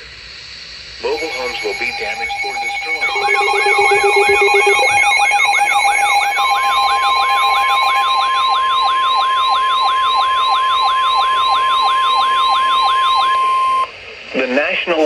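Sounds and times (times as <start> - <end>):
alarm with rapid falling sweeps: 1.0 - 13.8
steady warning alarm tone: 1.0 - 13.8.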